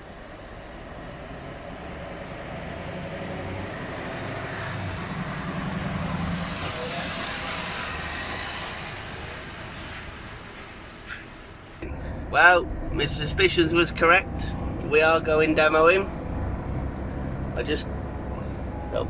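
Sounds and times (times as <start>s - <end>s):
diesel engine humming: 3.2s - 19.0s.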